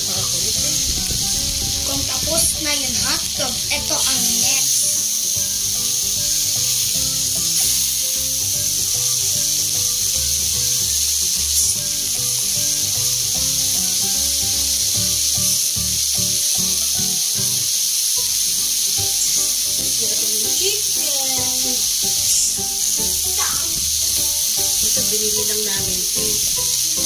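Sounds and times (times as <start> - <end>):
background music: 0.0 - 27.0
meat sizzling on a grill: 0.0 - 27.0.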